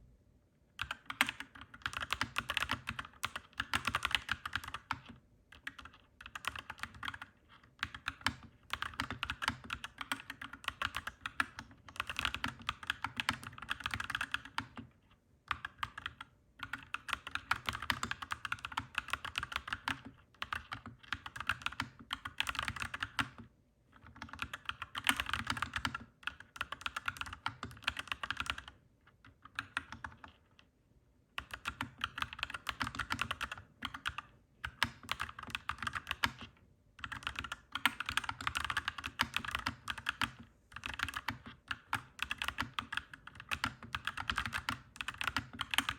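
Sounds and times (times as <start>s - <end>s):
mechanical keyboard typing: 0.8s - 14.9s, 15.5s - 30.7s, 31.4s - 45.9s.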